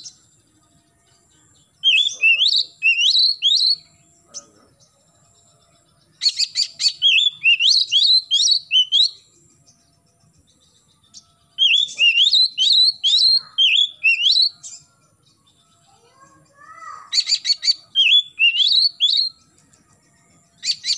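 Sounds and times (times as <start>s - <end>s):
bird singing whistled notes: 0.0s - 20.9s.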